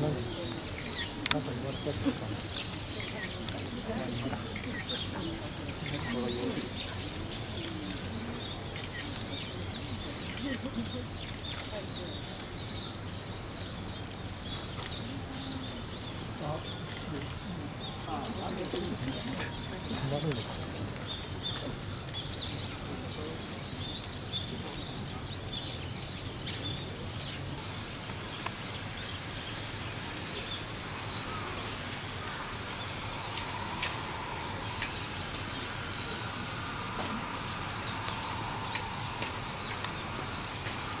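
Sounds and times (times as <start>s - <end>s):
outdoor background hiss: 0.0s - 41.0s
small birds chirping: 0.0s - 41.0s.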